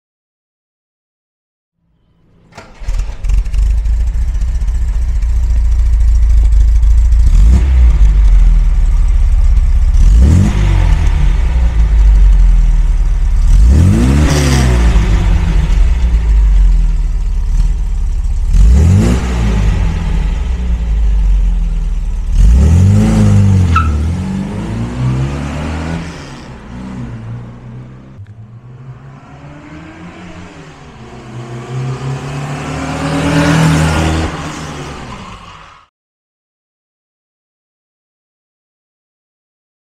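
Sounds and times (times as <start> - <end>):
car engine idling and revving: 2.6 - 35.9.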